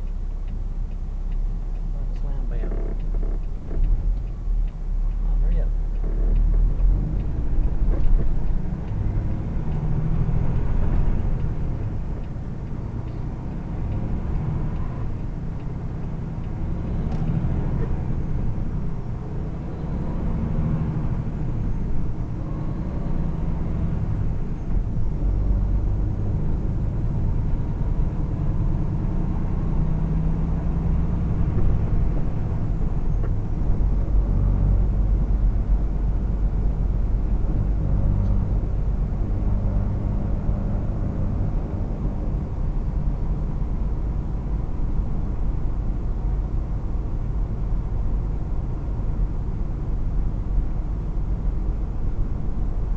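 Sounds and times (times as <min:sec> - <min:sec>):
road noise inside cab: 0:00.0 - 0:52.9
truck engine accelerating: 0:00.0 - 0:52.9.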